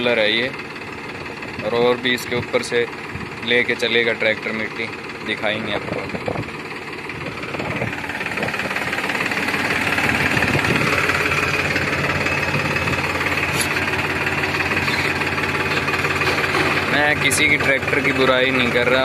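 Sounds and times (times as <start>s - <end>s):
tractor diesel engine knocking: 0.0s - 19.0s.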